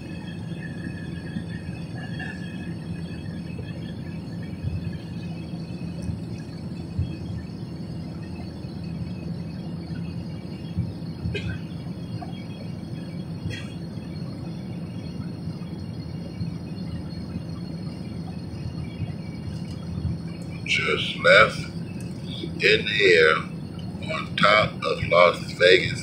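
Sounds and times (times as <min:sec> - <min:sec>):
airplane cabin engine hum: 0:00.0 - 0:26.0.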